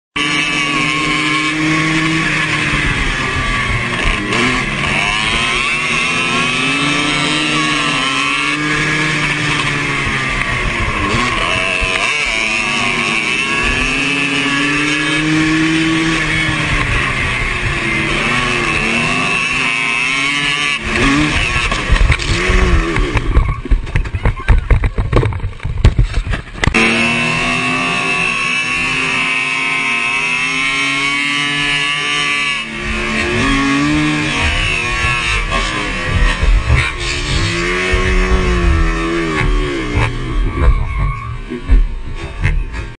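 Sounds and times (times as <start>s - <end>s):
loud uneven noise: 0.2s - 42.9s
racing engines revving: 0.2s - 42.9s.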